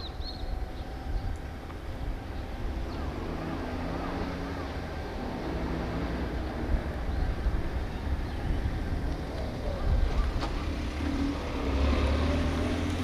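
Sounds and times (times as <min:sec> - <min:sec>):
wind buffeting microphone: 0:00.0 - 0:11.8
distant machinery drone: 0:00.0 - 0:13.0.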